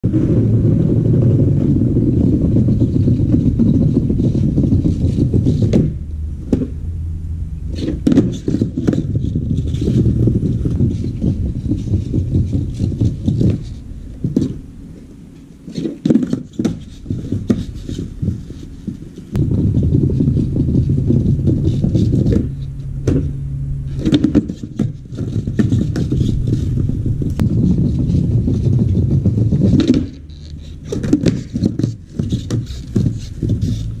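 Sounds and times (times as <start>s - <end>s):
skateboard wheels rolling on pavers: 0.0s - 6.8s, 7.7s - 34.0s
skateboard grinding along curb: 0.1s - 6.8s, 7.6s - 34.0s.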